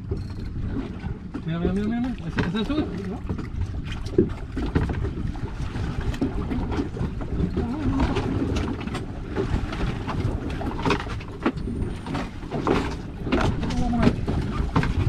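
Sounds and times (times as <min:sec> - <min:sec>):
water washing around hull: 0:00.0 - 0:15.0
wind rumbling on microphone: 0:00.0 - 0:15.0.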